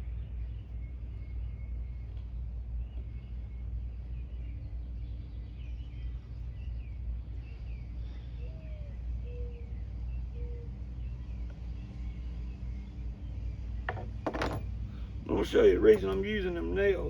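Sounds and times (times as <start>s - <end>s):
small birds chirping: 0.0s - 14.2s
low background rumble: 0.0s - 17.0s.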